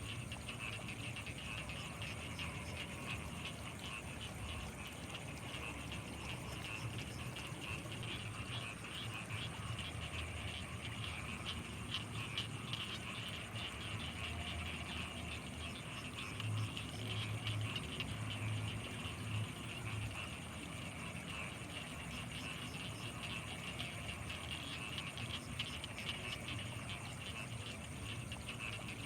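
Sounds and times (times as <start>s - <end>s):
frogs calling: 0.0s - 29.0s
high insect trill: 0.0s - 29.0s.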